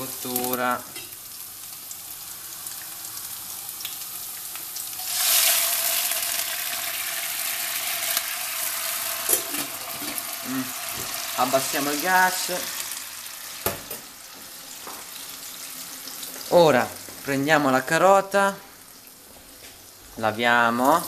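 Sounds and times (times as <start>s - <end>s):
water hissing in hot oil: 0.0s - 17.4s
food sizzling in oil: 0.0s - 21.0s.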